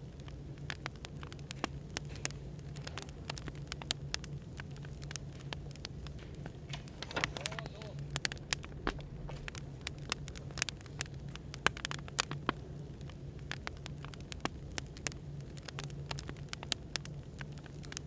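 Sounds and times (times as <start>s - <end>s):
firewood crackling and popping: 0.0s - 18.0s
low background hum: 0.0s - 18.0s.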